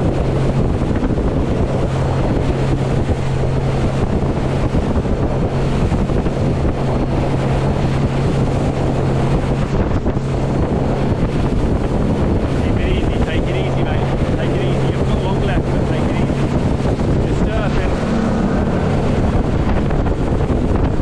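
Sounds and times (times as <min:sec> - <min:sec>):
outboard engine drone: 0:00.0 - 0:21.0
water rushing past hull: 0:00.0 - 0:21.0
wind buffeting microphone: 0:00.0 - 0:21.0.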